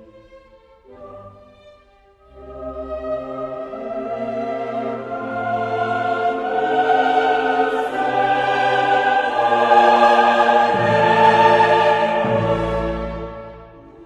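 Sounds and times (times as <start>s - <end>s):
choral and orchestral music: 0.0s - 14.0s.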